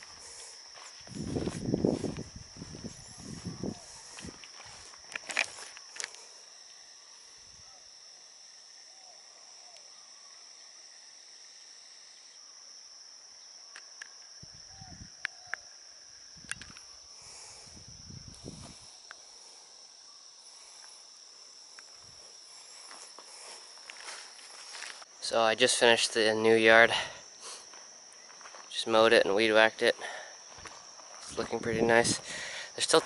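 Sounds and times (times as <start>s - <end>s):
insects shrilling: 0.0s - 33.0s.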